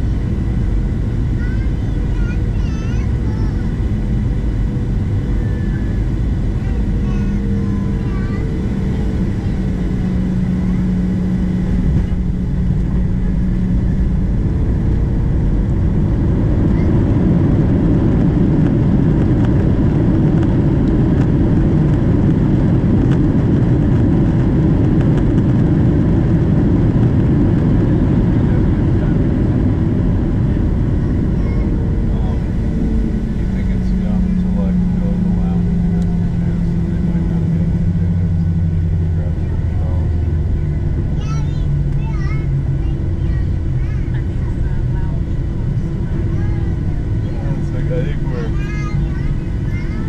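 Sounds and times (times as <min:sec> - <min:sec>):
jet engines and rushing air: 0:00.0 - 0:50.0.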